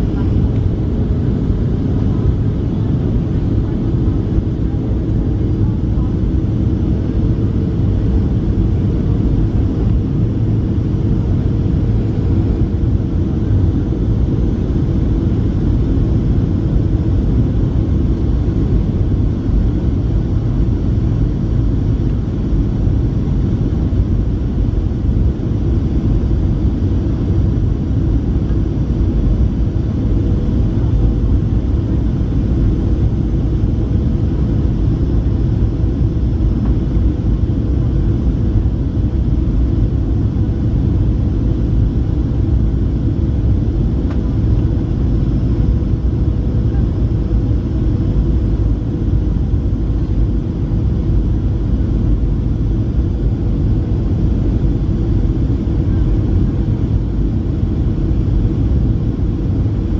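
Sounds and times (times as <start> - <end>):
aircraft engines and airflow rumbling: 0.0 - 59.9.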